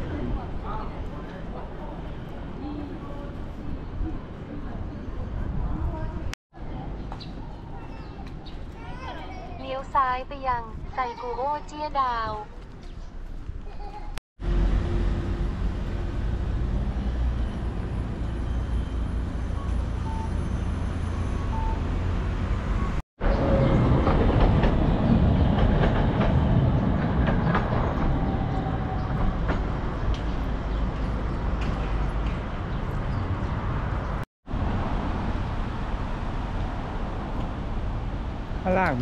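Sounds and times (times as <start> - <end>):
city street traffic rumble: 0.0 - 39.0.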